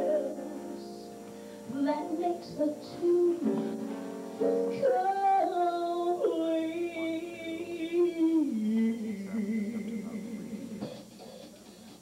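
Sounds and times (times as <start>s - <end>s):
woman singing into a microphone: 0.0s - 1.1s, 1.7s - 3.8s, 4.5s - 11.0s.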